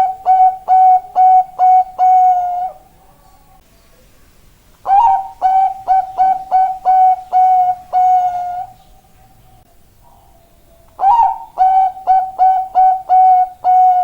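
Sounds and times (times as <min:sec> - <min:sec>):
dove cooing: 0:00.0 - 0:03.6, 0:04.8 - 0:14.0.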